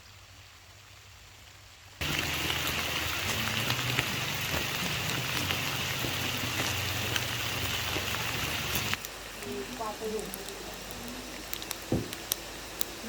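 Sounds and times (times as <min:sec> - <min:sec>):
heavy rain pouring: 0:01.8 - 0:13.0.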